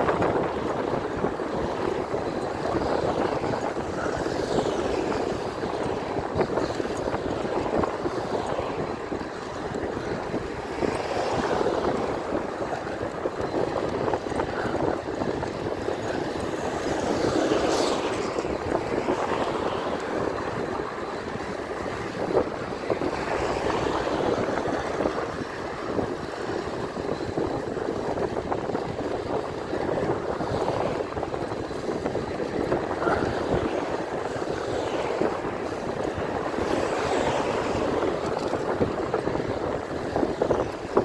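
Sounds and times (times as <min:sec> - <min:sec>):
road noise: 0:00.0 - 0:41.0
wind rushing over microphone: 0:00.0 - 0:41.0.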